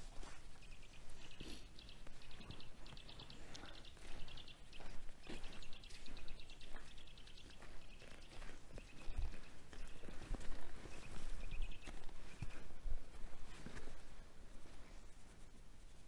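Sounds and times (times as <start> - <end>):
songbirds chipping and trilling: 0.0 - 14.2.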